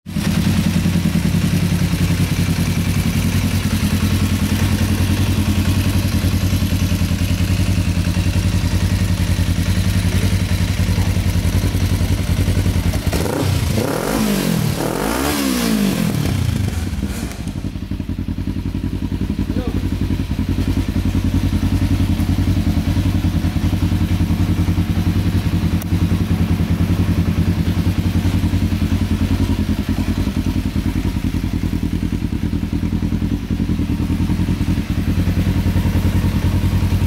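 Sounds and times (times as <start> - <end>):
motorcycle engine idling: 0.0 - 37.0
motorcycle engine revving: 0.1 - 37.0.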